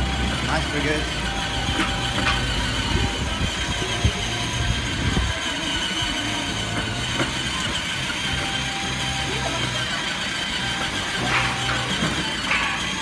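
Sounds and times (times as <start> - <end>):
electric motor whine: 0.0 - 13.0
plastic wheels rumbling on concrete: 0.0 - 13.0.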